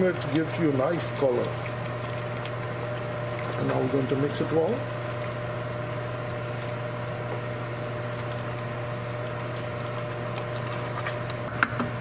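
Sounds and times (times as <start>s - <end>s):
curry sizzling: 0.0s - 11.6s
range hood fan humming: 0.0s - 12.0s.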